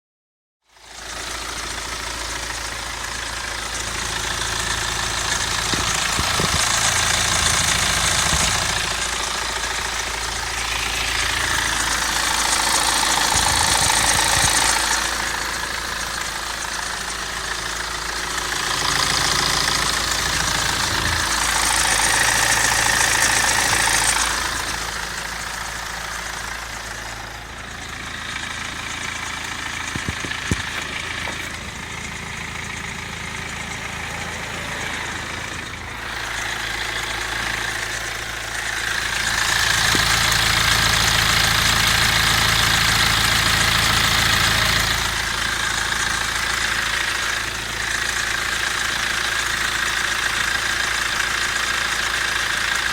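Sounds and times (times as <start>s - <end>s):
diesel engine knocking rattle: 0.7s - 52.9s.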